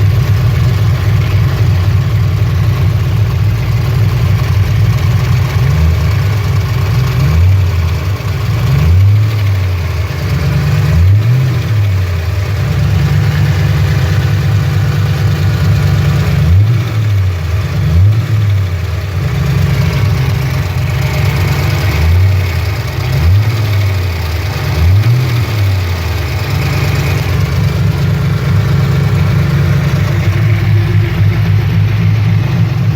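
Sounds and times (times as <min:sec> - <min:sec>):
engine idling and revving: 0:00.0 - 0:32.9.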